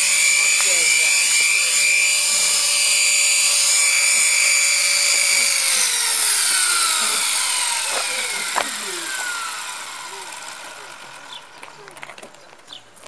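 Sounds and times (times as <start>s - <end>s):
rc helicopter rotor whine: 0.0s - 12.7s.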